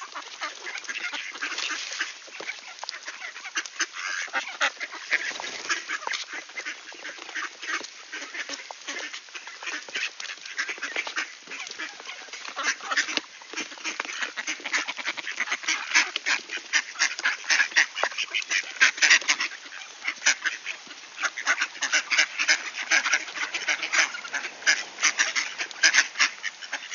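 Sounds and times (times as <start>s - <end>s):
duck bills clicking on grain: 0.0s - 26.9s
ducks quacking: 0.0s - 26.9s.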